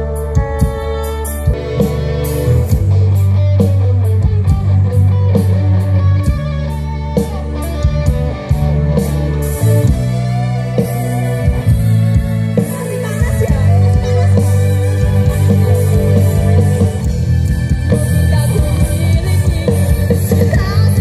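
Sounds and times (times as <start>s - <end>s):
drum kit: 0.0s - 21.0s
electric guitar: 0.0s - 21.0s
heavy bass notes: 0.0s - 21.0s.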